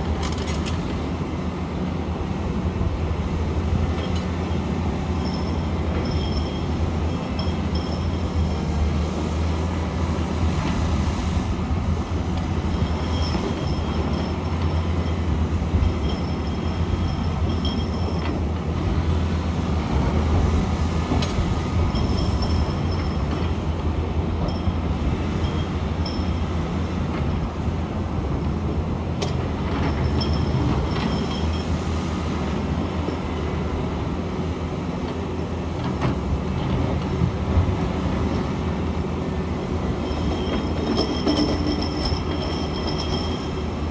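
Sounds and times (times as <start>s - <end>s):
excavator engine rumble: 0.0s - 43.9s.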